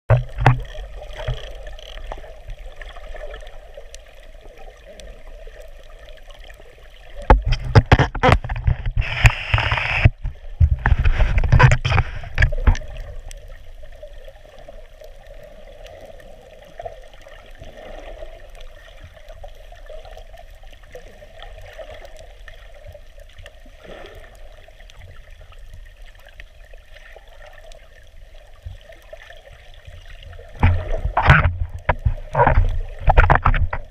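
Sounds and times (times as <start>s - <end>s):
underwater low hum: 0.1s - 33.9s
underwater rumbling and knocks: 0.1s - 33.9s.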